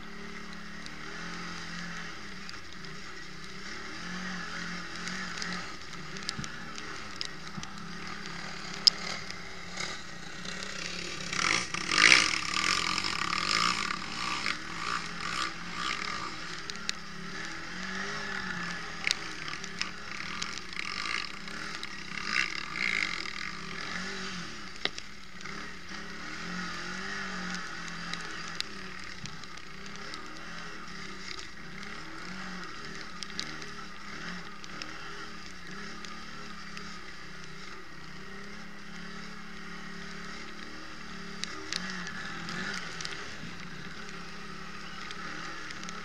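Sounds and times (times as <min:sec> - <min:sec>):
quad bike engine revving: 0:00.0 - 0:46.0.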